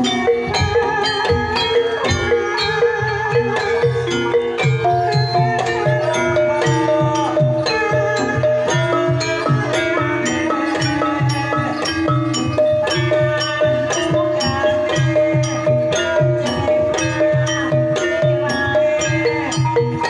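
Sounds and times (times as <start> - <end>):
metallophones ringing melody: 0.0 - 20.0.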